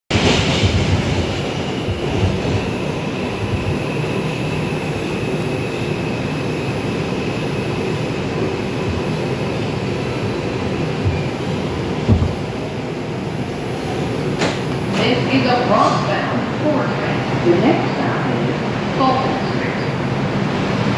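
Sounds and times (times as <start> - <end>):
subway wheels rumbling: 0.1 - 20.9.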